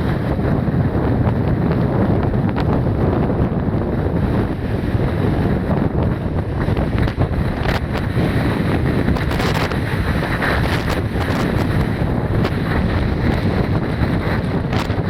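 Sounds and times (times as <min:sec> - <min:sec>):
rough sea surf: 0:00.0 - 0:15.0
wind buffeting microphone: 0:00.0 - 0:15.0.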